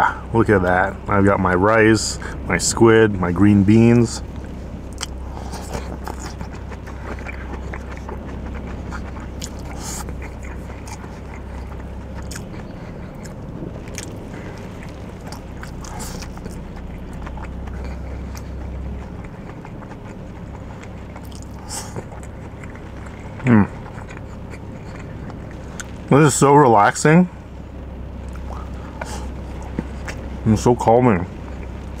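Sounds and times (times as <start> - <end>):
steady low hum: 0.0 - 32.0
chewing food: 3.7 - 26.1, 27.3 - 30.4, 31.3 - 32.0.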